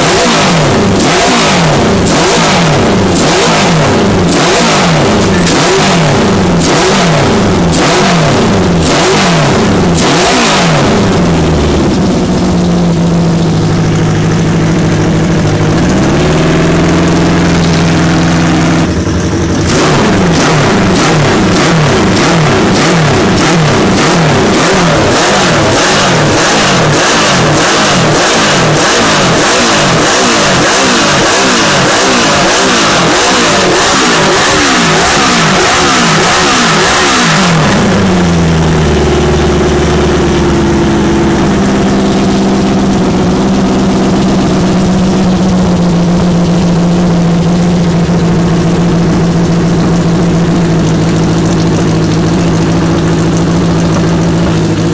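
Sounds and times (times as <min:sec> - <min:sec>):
motorcycle engine revving and idling: 0:00.0 - 0:54.9.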